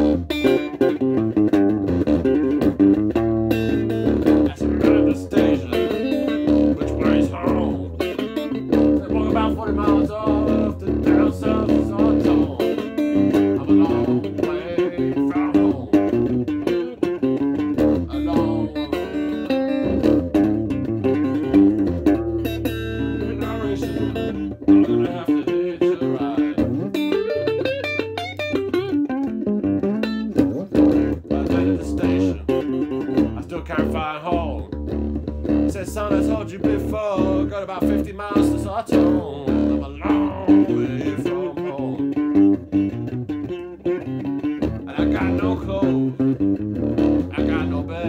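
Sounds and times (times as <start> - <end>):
guitar plucked notes and chords: 0.0 - 48.0
low bass line: 0.0 - 48.0.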